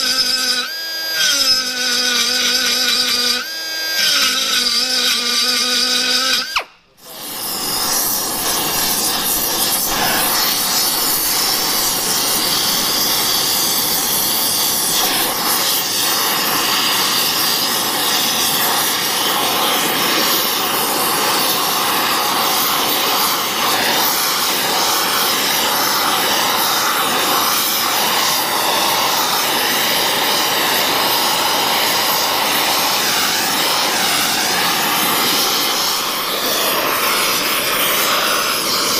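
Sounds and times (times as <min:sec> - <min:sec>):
air die grinder whining: 0:00.0 - 0:38.9
torch flame hissing: 0:05.3 - 0:38.9.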